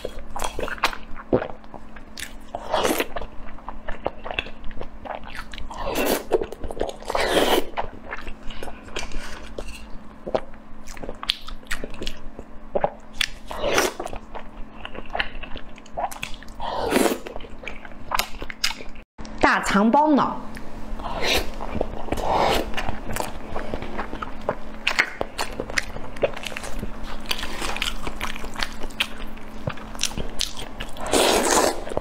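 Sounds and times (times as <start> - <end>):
person chewing and biting food: 0.0 - 19.0, 21.0 - 32.0.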